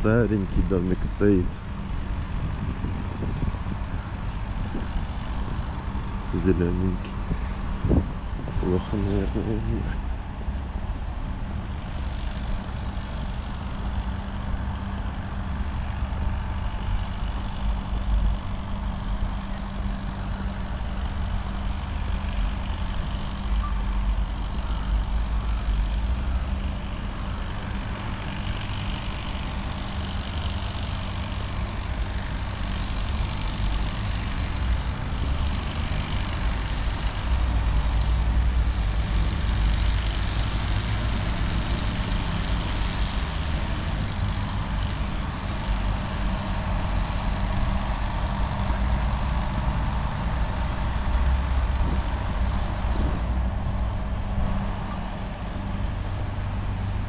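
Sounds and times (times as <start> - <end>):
street traffic rumble: 0.0 - 57.0.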